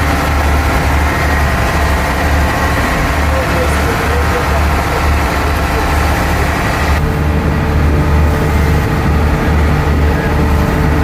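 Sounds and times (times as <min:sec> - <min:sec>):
ferry engine humming: 0:00.0 - 0:11.0.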